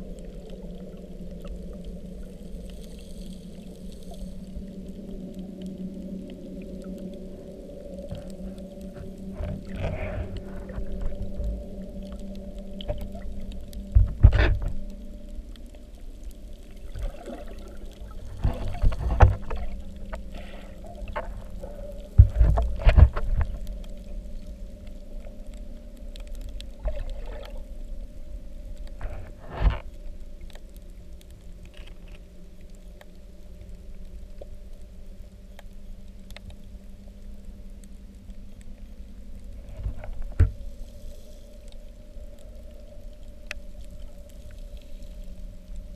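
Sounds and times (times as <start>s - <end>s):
low underwater hum: 0.0s - 45.9s.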